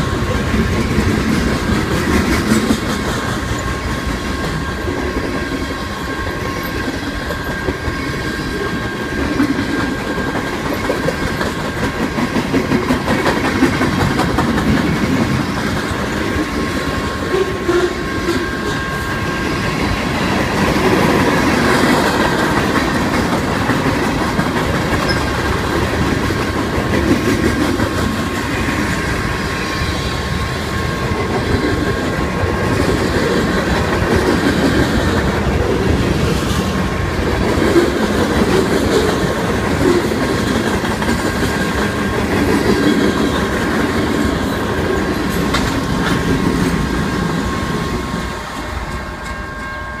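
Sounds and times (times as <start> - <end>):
train wheels clattering over rails: 0.0 - 49.6
high ringing tone: 3.4 - 12.3, 15.2 - 26.6, 27.4 - 39.9, 41.6 - 50.0.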